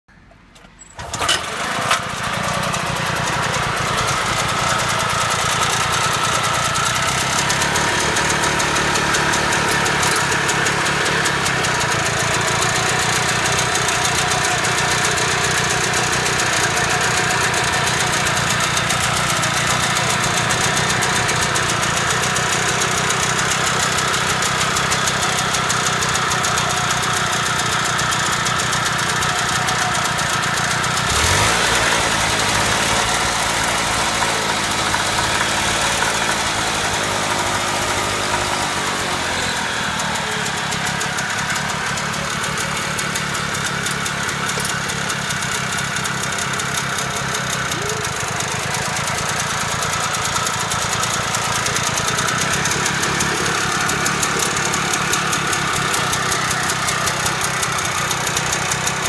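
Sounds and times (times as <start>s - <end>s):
tractor engine starting and idling: 0.0s - 59.0s.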